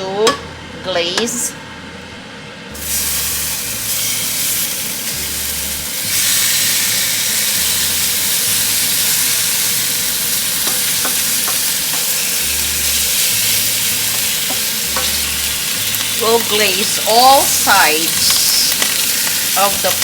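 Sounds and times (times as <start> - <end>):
meat sizzling in a pan: 2.8 - 20.0.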